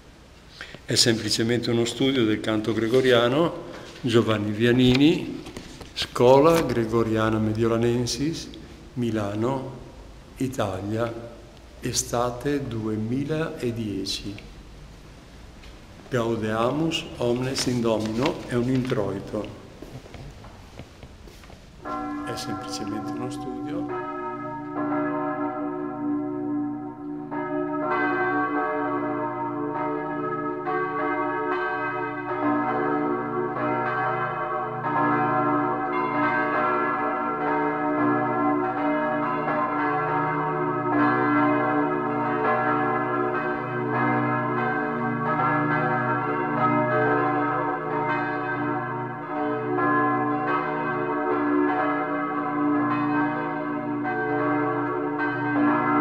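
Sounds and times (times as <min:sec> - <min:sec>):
church bells pealing: 0:00.9 - 0:14.7, 0:16.1 - 0:19.9, 0:21.8 - 0:56.0.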